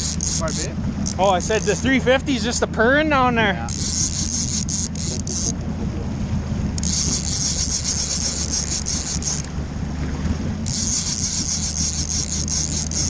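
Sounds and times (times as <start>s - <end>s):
boat engine purring: 0.0s - 13.0s.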